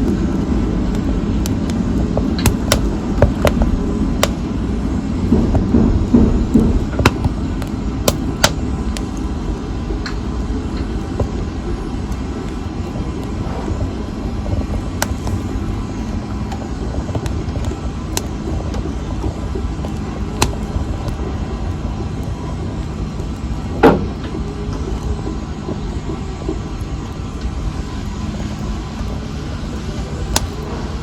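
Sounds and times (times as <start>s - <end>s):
fire crackling and popping: 0.0s - 31.0s
fire flames rumbling: 0.0s - 31.0s.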